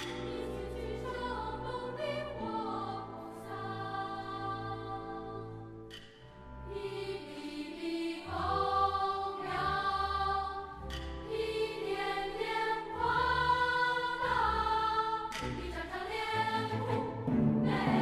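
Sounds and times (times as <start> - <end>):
children's choir singing: 0.0 - 5.9, 6.7 - 18.0
symphony orchestra: 0.0 - 18.0.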